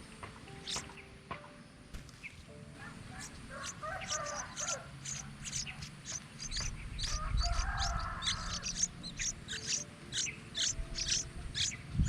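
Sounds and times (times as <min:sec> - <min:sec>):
small birds calling: 0:00.0 - 0:12.0.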